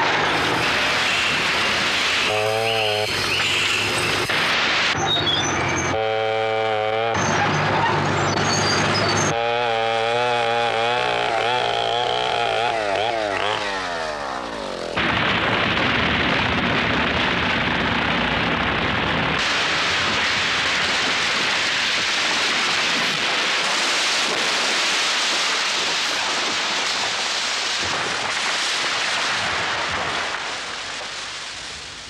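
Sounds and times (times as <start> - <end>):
tree crashing through branches: 0.0 - 5.5, 8.4 - 32.0.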